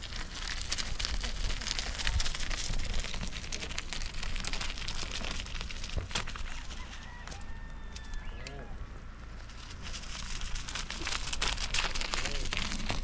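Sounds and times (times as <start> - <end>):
rain pattering: 0.0 - 7.2, 9.5 - 13.0.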